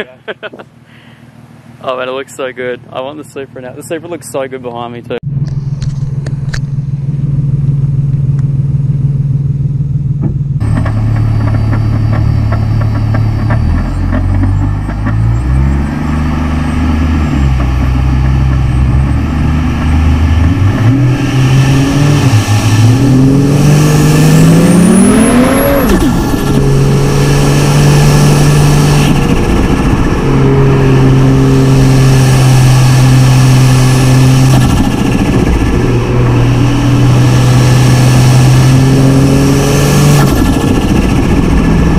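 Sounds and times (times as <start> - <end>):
turbocharged car engine: 0.0 - 41.9.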